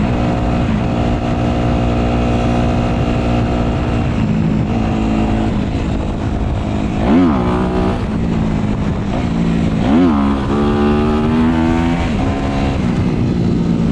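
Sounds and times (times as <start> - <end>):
dirt bike engine revving: 0.0 - 13.9.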